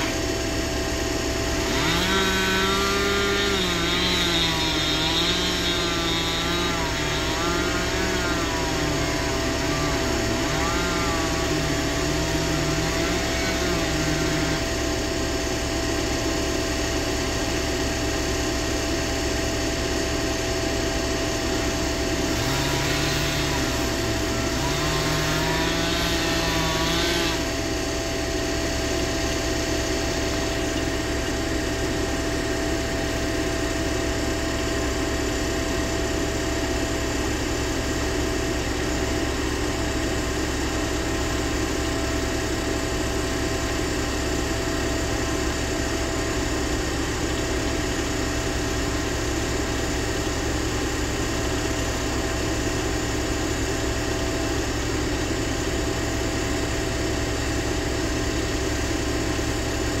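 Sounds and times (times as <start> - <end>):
heavy machine engine idling: 0.0 - 60.0.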